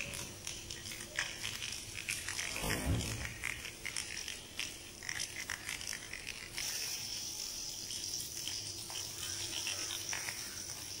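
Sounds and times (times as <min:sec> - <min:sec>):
leaves sizzling in hot oil: 0:00.0 - 0:11.0
seeds popping in hot oil: 0:00.0 - 0:11.0.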